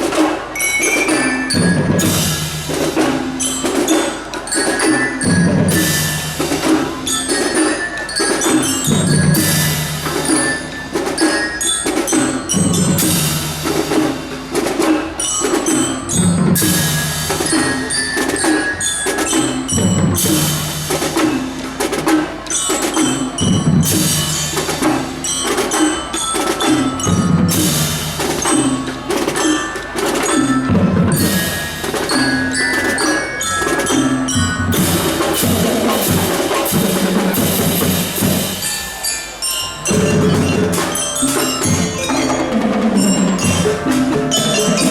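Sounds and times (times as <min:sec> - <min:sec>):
drum band playing: 0:00.0 - 0:44.9
glockenspiel melody: 0:00.0 - 0:44.9.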